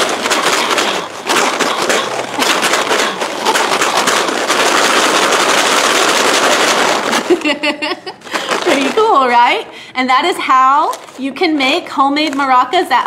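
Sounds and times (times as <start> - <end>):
paper bag maracas rattling: 0.0 - 9.7, 10.4 - 13.0.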